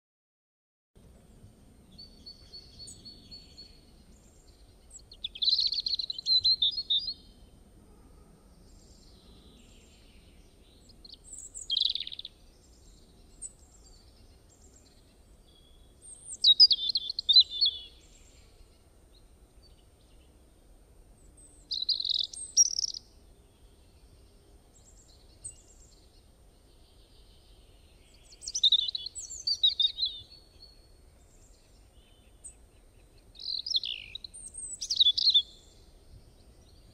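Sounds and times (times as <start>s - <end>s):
songbird chirping: 1.0s - 7.8s, 8.4s - 36.9s.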